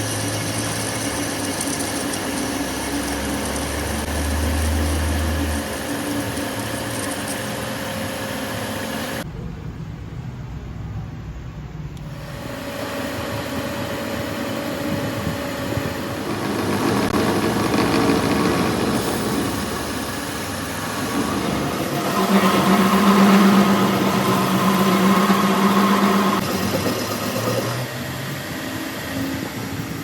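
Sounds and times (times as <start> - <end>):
machine running noisily: 0.0 - 9.6, 12.0 - 30.0
steady hum: 0.0 - 30.0.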